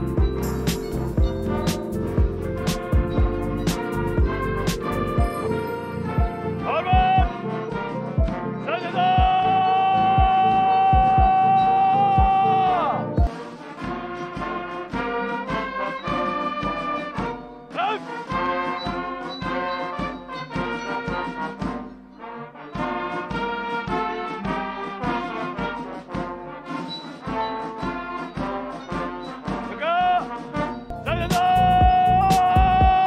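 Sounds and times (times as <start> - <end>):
brass band playing a march: 0.0 - 11.6, 12.2 - 33.0.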